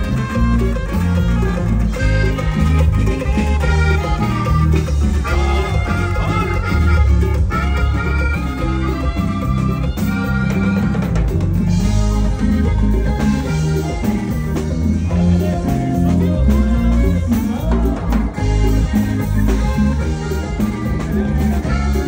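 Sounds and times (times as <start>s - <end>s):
band music over loudspeakers: 0.0s - 22.0s.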